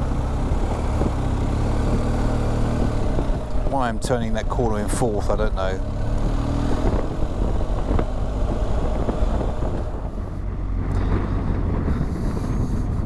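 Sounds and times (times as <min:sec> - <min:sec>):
motorcycle engine running: 0:00.0 - 0:13.0
road noise: 0:00.0 - 0:13.0
wind noise: 0:00.0 - 0:13.0.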